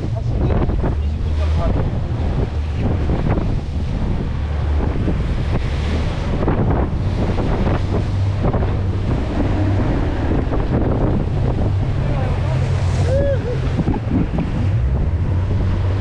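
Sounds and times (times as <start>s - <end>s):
outboard engine drone: 0.0s - 16.0s
water splashing along hull: 0.0s - 16.0s
wind buffeting microphone: 0.0s - 16.0s.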